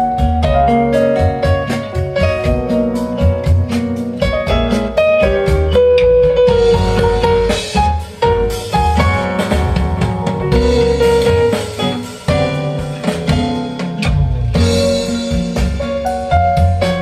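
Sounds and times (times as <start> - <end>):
music with drum kit over loudspeakers: 0.0 - 17.0.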